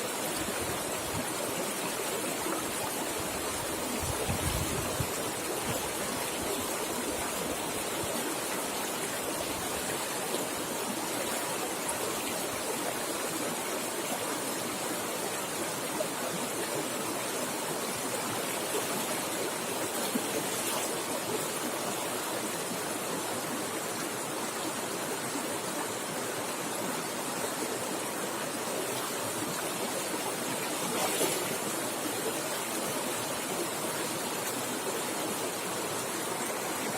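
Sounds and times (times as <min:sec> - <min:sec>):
river water flowing fast: 0:00.0 - 0:36.9.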